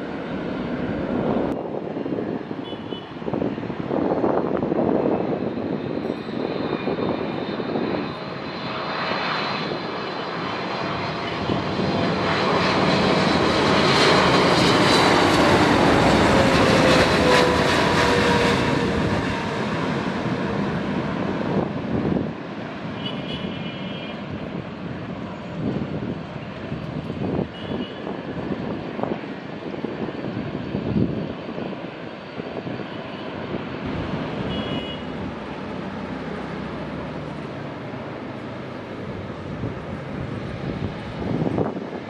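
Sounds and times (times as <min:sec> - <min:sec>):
jet engines passing overhead: 0:00.0 - 0:42.0.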